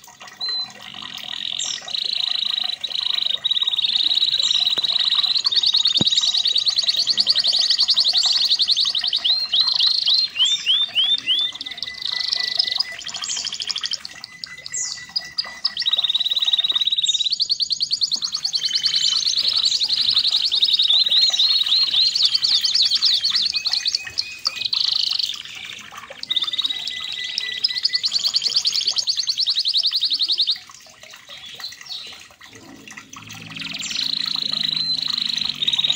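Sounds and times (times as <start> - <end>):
canary singing trills: 0.4 - 35.9.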